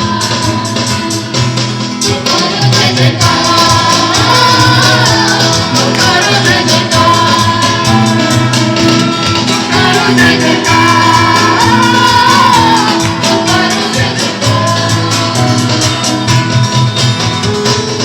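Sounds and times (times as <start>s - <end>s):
person singing: 0.0s - 1.3s, 2.0s - 8.7s, 9.3s - 16.3s
busy percussion beat: 0.0s - 18.0s.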